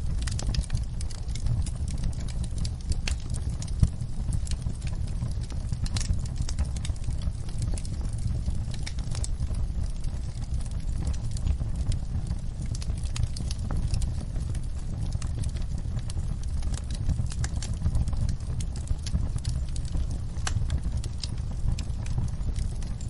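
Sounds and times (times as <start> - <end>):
low rumble of burning: 0.0 - 23.0
wood fire crackling: 0.0 - 23.0.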